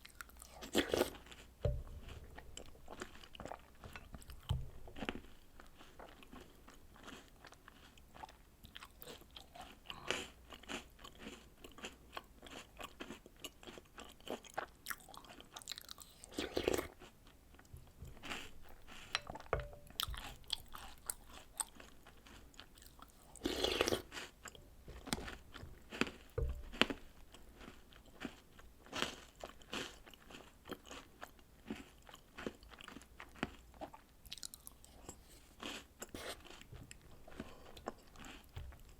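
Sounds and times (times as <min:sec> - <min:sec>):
chewing and crunching cereal: 0:00.0 - 0:38.9.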